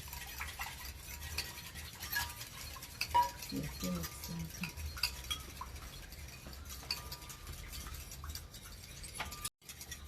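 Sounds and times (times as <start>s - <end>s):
forks clinking against bowls: 0.0s - 10.0s.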